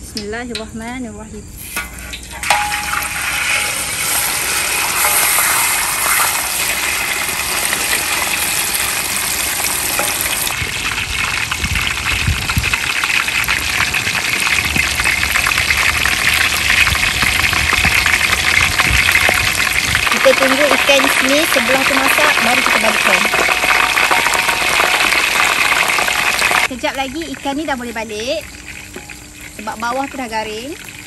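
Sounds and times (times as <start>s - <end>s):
fish sizzling in hot oil: 1.6s - 31.0s
oil crackling and popping: 1.6s - 31.0s.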